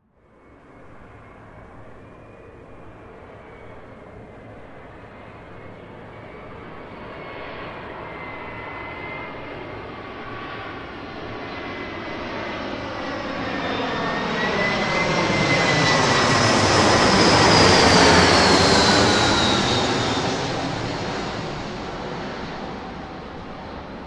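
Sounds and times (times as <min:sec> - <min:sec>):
airliner flying past: 0:00.2 - 0:24.0.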